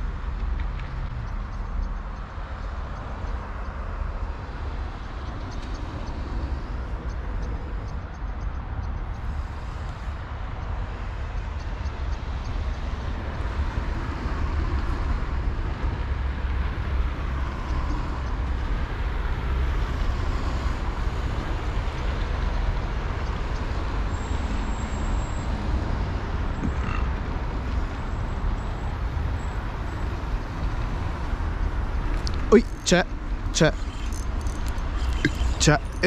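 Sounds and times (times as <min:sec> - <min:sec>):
distant road traffic: 0:00.0 - 0:36.0.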